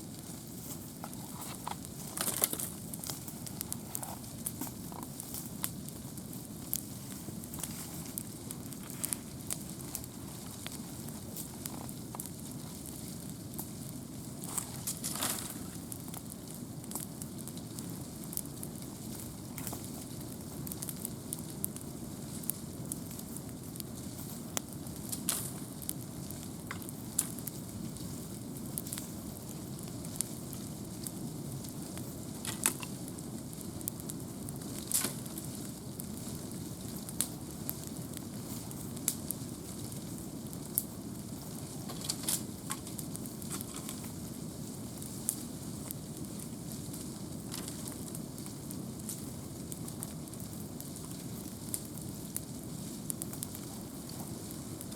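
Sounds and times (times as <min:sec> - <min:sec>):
burning logs crackling and popping: 0:00.0 - 0:54.9
campfire flame rushing: 0:00.0 - 0:54.9.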